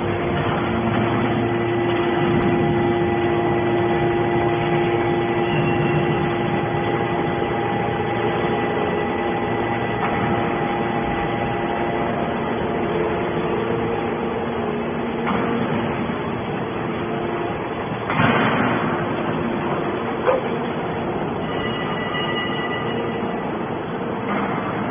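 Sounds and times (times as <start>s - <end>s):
hydraulic power unit humming: 0.0s - 24.9s.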